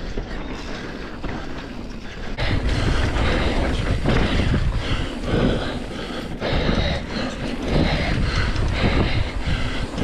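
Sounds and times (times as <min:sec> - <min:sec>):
bike rattling: 0:00.0 - 0:10.0
bike tyres rumbling on dirt: 0:00.0 - 0:10.0.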